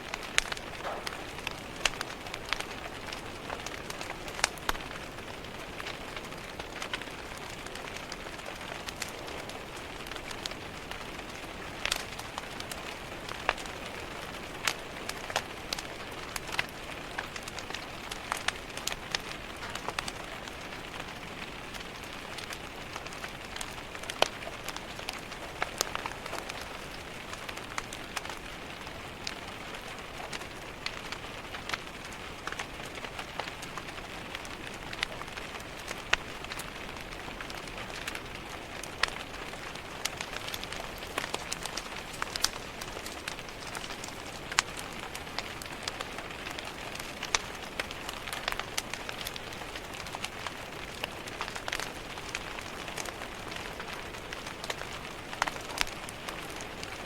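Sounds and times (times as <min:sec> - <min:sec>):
rain pattering on window glass: 0:00.0 - 0:57.0
wood fire crackling: 0:00.0 - 0:57.0.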